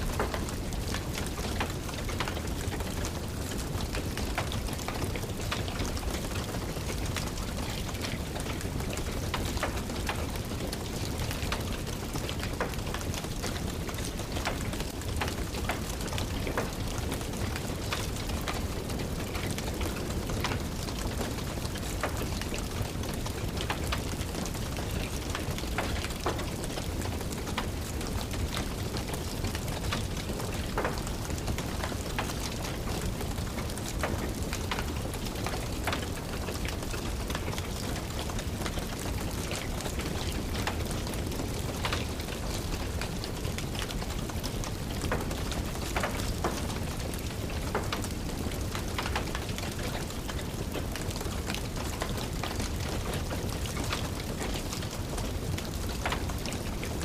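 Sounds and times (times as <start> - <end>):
steady rain: 0.0 - 57.0
wood fire crackling and popping: 0.0 - 57.0.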